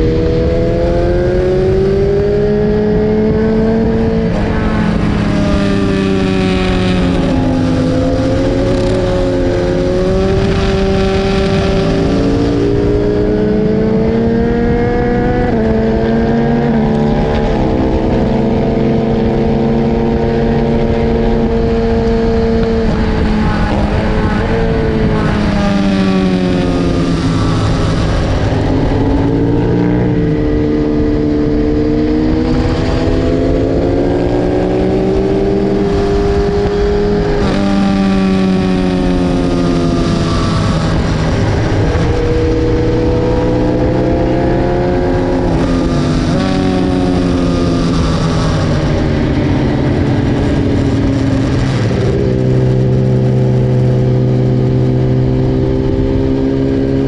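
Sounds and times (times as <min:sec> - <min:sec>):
motorcycle engine at racing revs: 0:00.0 - 0:57.0.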